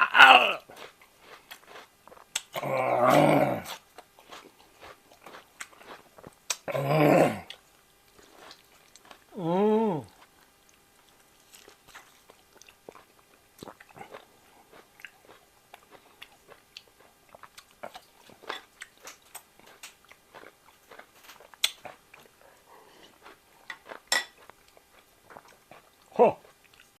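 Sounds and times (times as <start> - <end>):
wet chewing and biting: 0.6 - 6.8, 7.4 - 9.4, 10.0 - 27.0.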